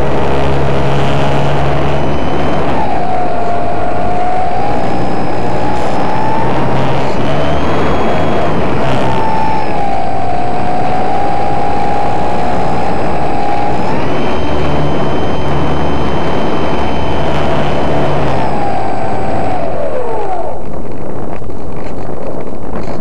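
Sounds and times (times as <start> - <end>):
model plane motor whining: 0.0 - 23.0
wind noise: 0.0 - 23.0.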